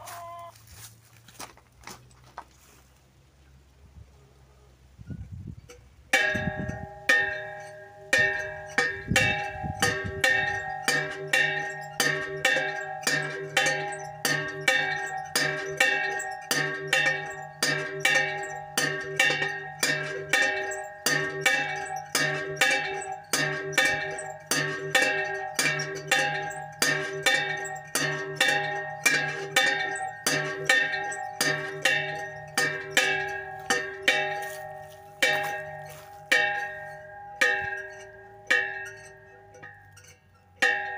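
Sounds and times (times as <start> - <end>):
metal pot bell ringing: 6.1 - 40.9.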